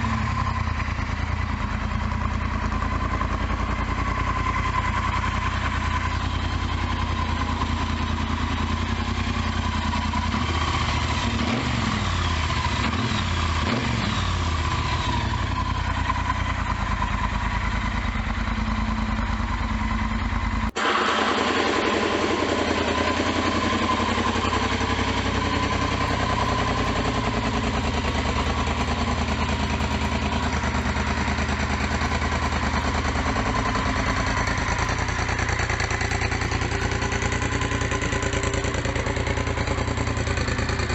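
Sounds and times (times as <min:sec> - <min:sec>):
motorcycle engine idling: 0:00.0 - 0:20.8, 0:21.5 - 0:40.9.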